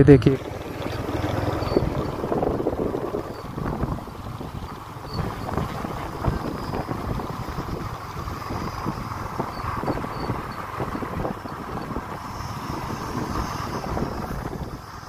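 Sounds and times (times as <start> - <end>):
motorcycle engine: 0.0 - 15.0
road noise: 0.0 - 15.0
wind buffeting microphone: 0.3 - 15.0.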